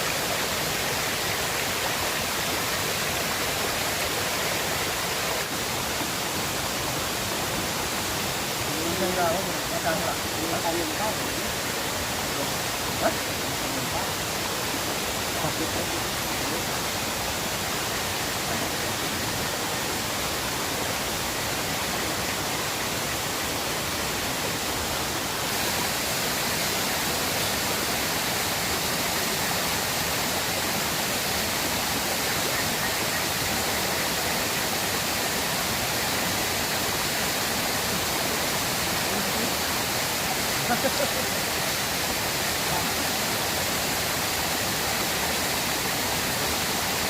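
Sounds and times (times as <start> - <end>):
river water rushing: 0.0 - 47.0.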